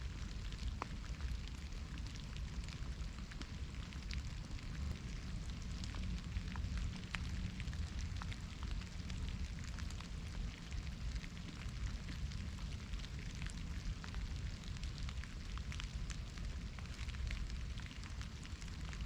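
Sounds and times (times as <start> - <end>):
rain hiss: 0.0 - 19.0
raindrops ticking: 0.0 - 19.0
steady low rumble: 0.0 - 19.0.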